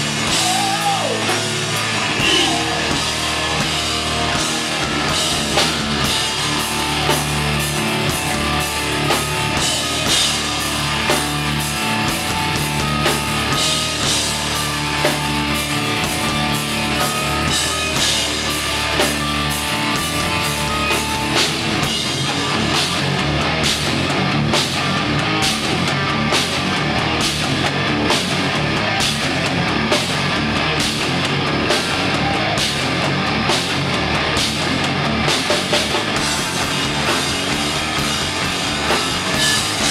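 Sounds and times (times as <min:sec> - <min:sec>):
driving drum beat: 0:00.0 - 0:39.9
electric guitar: 0:00.0 - 0:39.9.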